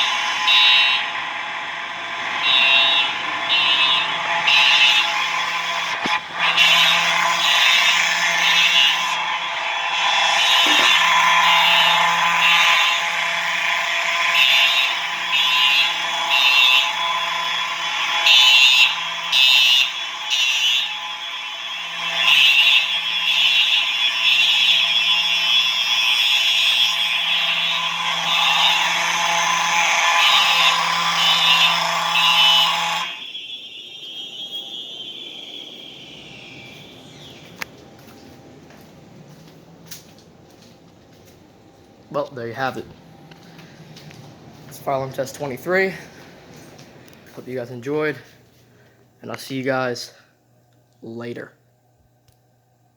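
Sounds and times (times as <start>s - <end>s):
steady low buzz: 0.0s - 49.6s
fire alarm horns pulsing: 0.0s - 50.3s.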